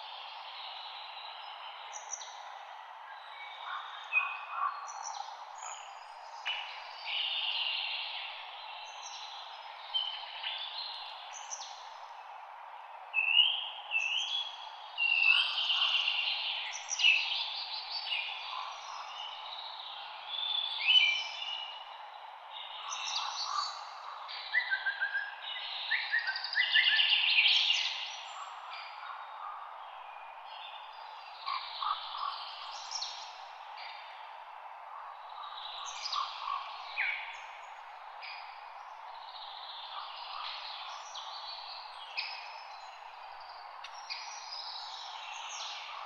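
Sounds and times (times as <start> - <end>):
songbirds singing and chirping: 0.0 - 46.0
steady background hiss: 0.0 - 46.0.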